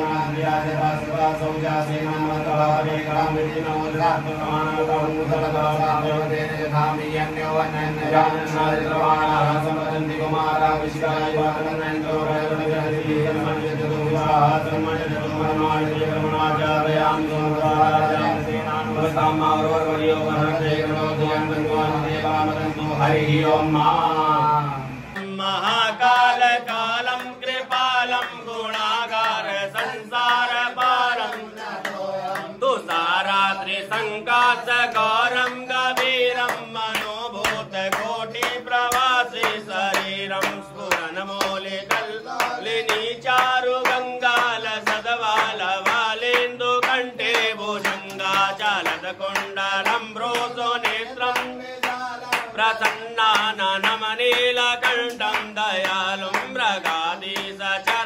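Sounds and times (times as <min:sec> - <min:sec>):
man chanting: 0:00.0 - 0:58.0.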